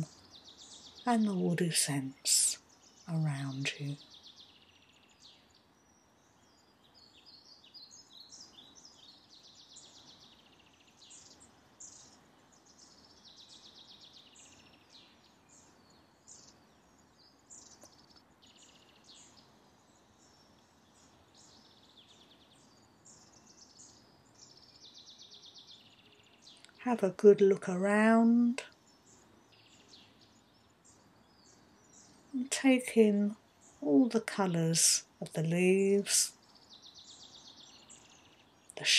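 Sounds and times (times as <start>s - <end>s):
birds chirping and trilling: 0.0s - 38.9s
soft steady hiss: 0.0s - 38.9s.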